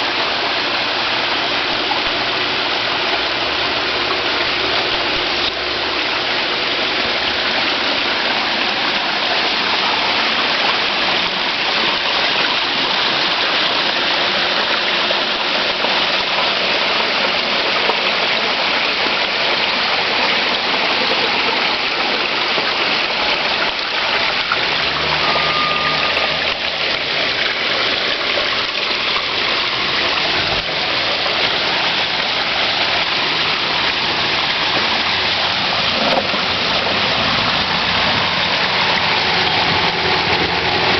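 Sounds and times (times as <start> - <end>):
waterfall splashing into pond: 0.0 - 40.9.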